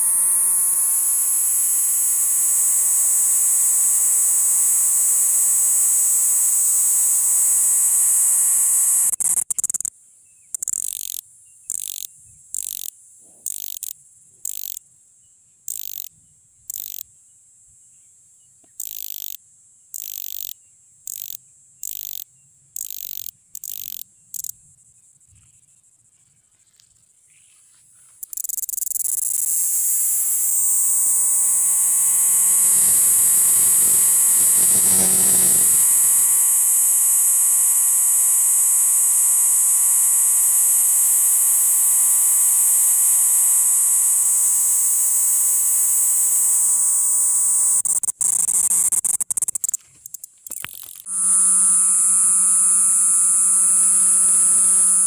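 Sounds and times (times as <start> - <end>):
cricket buzzing trill: 0.0 - 14.9, 15.7 - 17.1, 18.6 - 26.1, 28.2 - 55.0
cricket chirping: 0.0 - 55.0.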